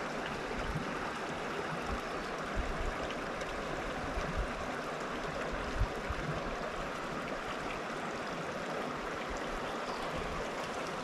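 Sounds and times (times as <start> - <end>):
creek water running over rocks: 0.0 - 11.0.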